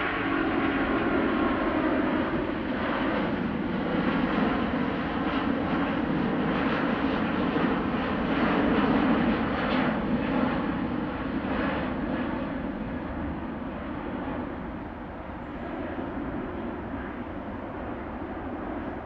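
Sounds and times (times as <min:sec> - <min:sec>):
jet engines at take-off: 0:00.0 - 0:19.0.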